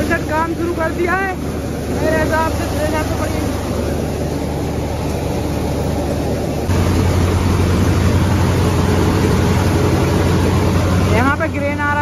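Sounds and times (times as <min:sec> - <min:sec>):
tractor engine drone: 0:00.0 - 0:12.0.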